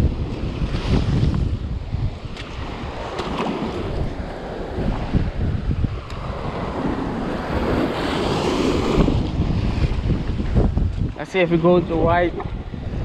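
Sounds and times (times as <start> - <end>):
sea waves breaking on rocks: 0.0 - 12.6
wind buffeting microphone: 0.0 - 13.0.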